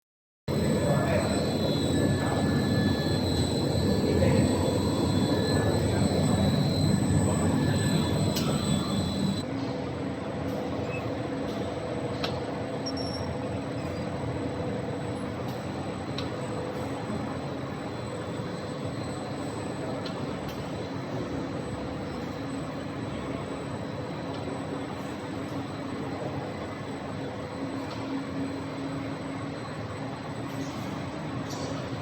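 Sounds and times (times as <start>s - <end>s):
production line machinery running: 0.5s - 32.0s.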